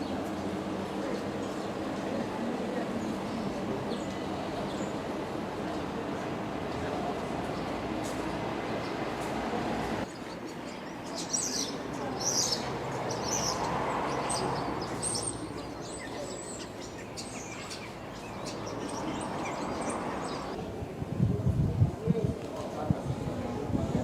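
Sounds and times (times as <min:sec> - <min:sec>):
birds chirping: 0:00.0 - 0:20.6.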